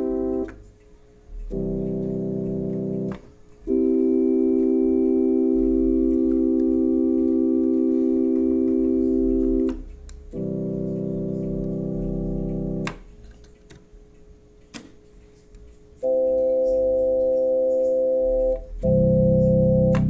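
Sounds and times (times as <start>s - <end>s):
electronic organ chords: 0.0s - 13.1s, 16.0s - 20.0s.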